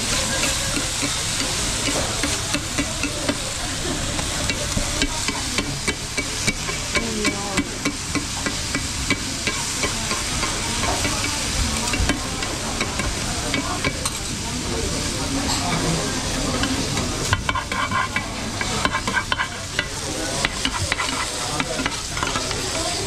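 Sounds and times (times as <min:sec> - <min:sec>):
metal spatulas clacking on griddle: 0:00.0 - 0:03.6, 0:04.2 - 0:14.3, 0:16.6 - 0:22.8
cabbage sizzling: 0:00.0 - 0:23.0.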